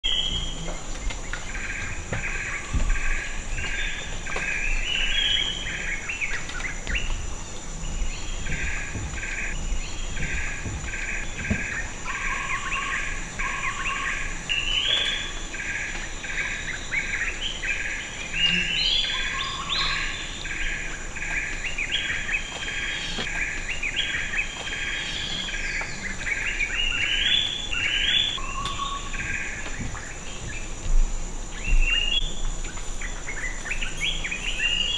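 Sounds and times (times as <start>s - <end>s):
bird calling: 0.0s - 30.8s.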